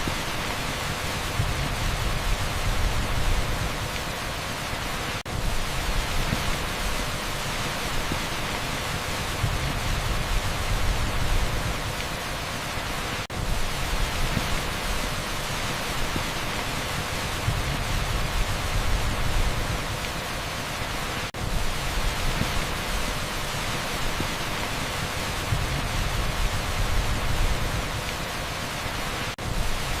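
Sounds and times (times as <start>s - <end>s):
torrential rain on asphalt: 0.0s - 30.0s.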